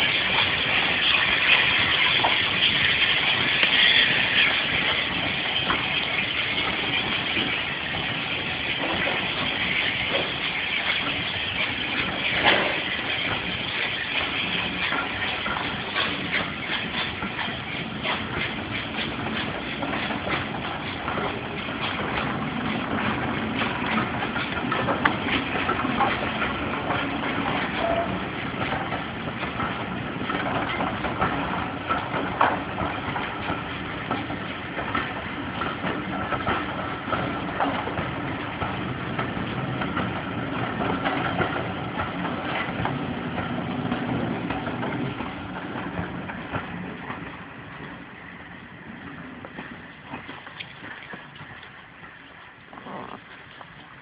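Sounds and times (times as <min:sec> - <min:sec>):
steam locomotive working: 0:00.0 - 0:54.0
wheels clattering over rail joints: 0:00.0 - 0:54.0.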